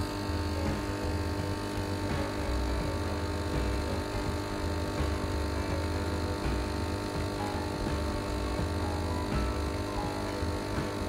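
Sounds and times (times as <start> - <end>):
coffee machine pump buzzing hum: 0.0 - 11.0.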